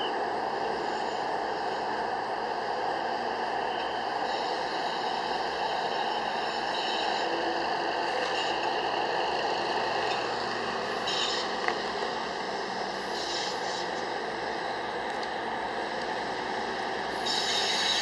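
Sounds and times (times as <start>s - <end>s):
distant motor vehicles: 0.0s - 18.0s.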